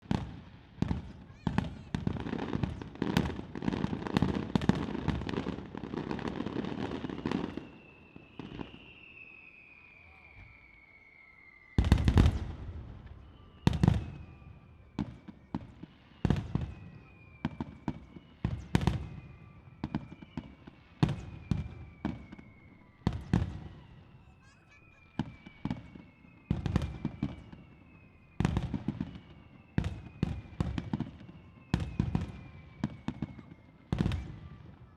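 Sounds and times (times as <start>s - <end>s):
falling firework whistles: 0.0s - 34.9s
fireworks bangs and crackle: 0.0s - 34.9s.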